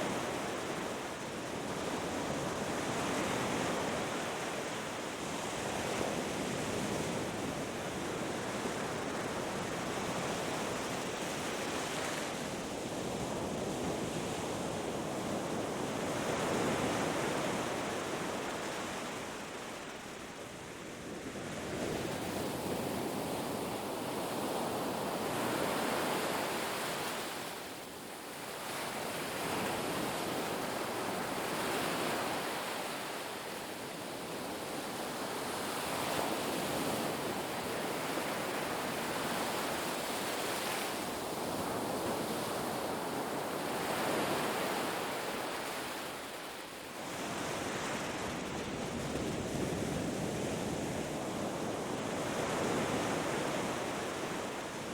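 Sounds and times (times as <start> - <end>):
waves breaking on a beach: 0.0 - 54.9.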